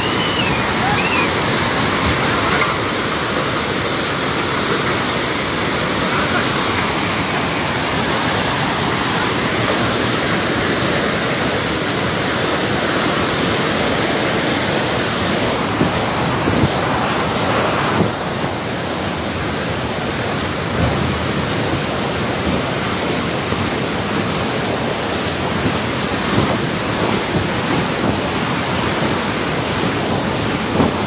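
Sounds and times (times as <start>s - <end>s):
rushing floodwater: 0.0s - 31.0s.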